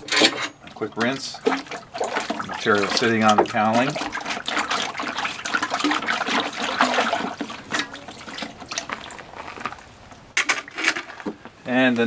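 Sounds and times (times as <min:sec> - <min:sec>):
water splashing and pouring: 0:00.5 - 0:11.3.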